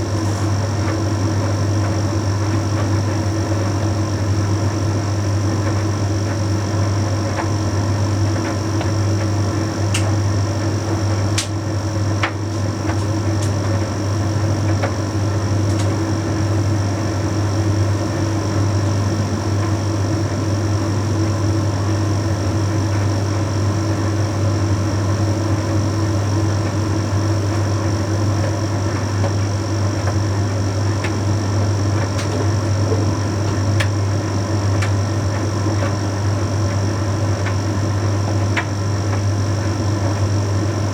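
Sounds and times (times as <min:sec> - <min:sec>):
tumble dryer humming: 0:00.0 - 0:40.9.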